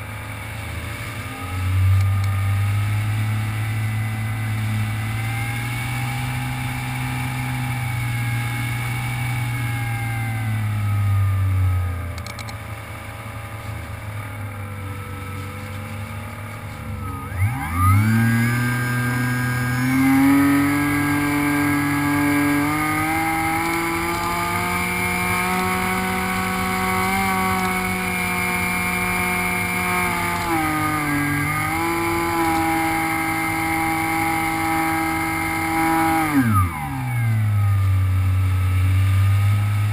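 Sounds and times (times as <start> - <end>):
electric model plane motor whine: 0.5 - 12.0, 13.2 - 39.9.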